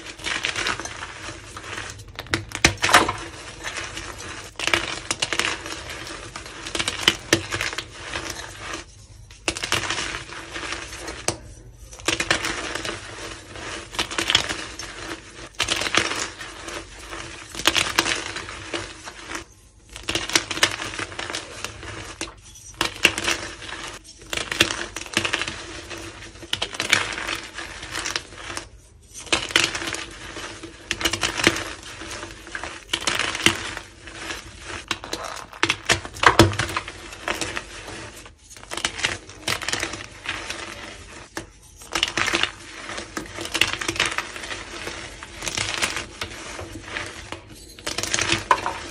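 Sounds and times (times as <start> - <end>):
chalk crunching and crumbling: 0.0 - 48.9.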